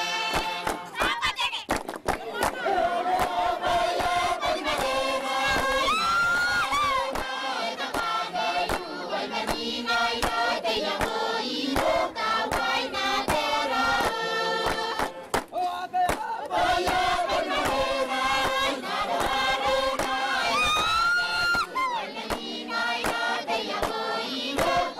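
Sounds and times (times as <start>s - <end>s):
group singing in chorus: 0.0s - 1.0s, 2.0s - 24.9s.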